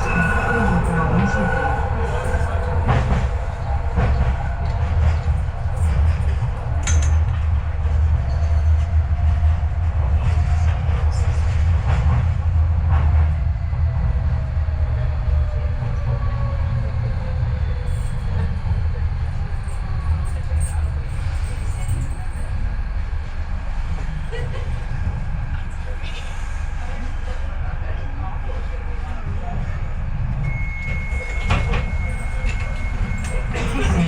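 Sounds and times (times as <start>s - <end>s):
train rumble inside carriage: 0.0s - 34.0s.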